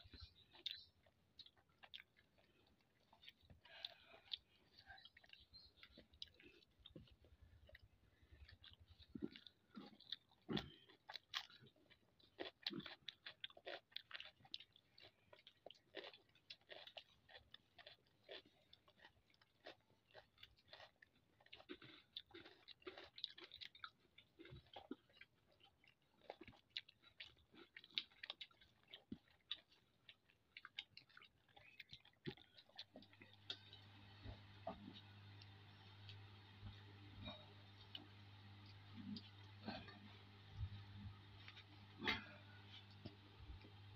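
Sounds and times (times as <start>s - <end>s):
chewing and mouth clicks: 0.0s - 43.9s.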